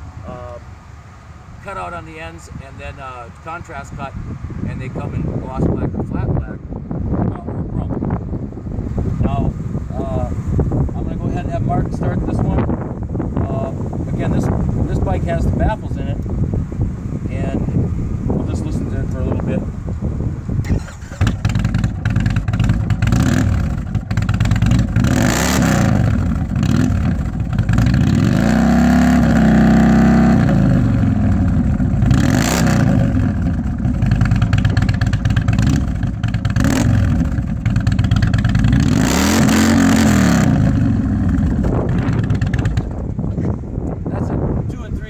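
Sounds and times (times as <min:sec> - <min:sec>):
motorcycle engine idling and revving: 0:00.0 - 0:45.0.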